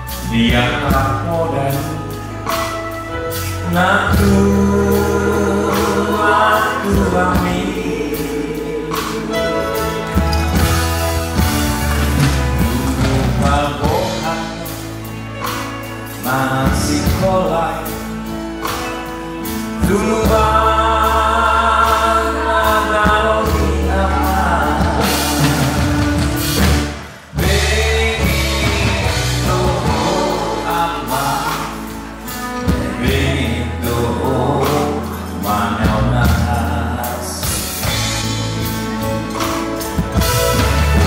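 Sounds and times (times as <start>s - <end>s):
man singing into microphone: 0.0s - 10.7s, 12.2s - 39.6s
music with steady beat: 0.0s - 41.0s.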